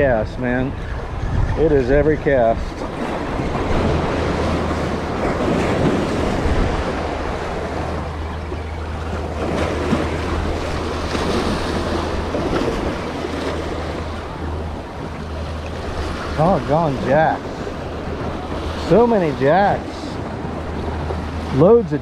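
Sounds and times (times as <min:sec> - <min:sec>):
wind buffeting microphone: 0:00.0 - 0:22.0
waves breaking against rocks: 0:01.9 - 0:22.0.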